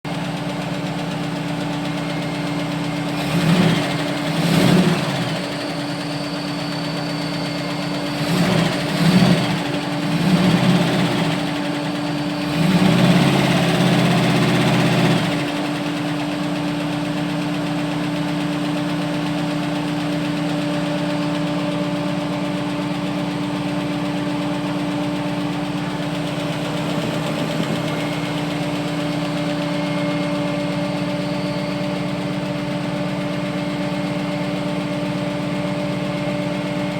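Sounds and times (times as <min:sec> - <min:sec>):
car engine with lifter tick: 0:00.1 - 0:36.9.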